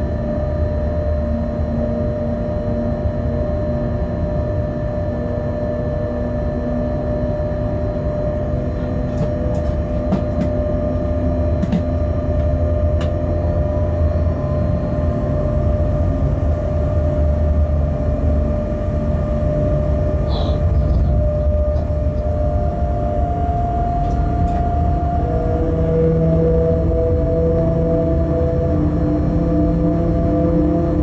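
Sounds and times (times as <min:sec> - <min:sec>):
locomotive cab rumble and hum: 0:00.0 - 0:31.0.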